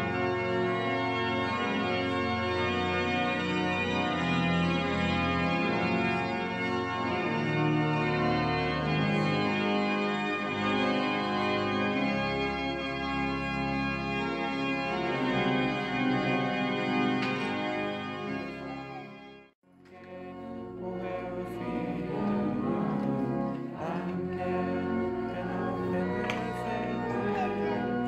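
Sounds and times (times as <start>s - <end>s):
church organ chords: 0.0s - 28.0s.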